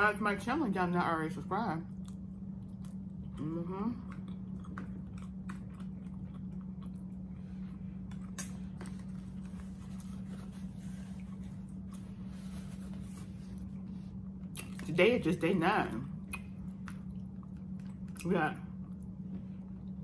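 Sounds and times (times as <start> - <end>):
steady low hum: 0.0 - 20.0
person chewing food: 1.9 - 14.8, 16.1 - 20.0.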